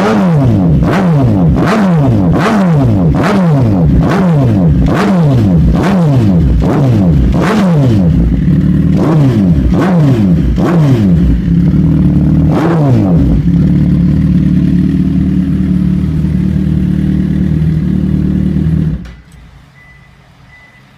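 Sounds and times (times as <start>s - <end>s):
motorcycle engine revving: 0.0s - 19.2s
motorcycle engine idling: 0.0s - 20.9s.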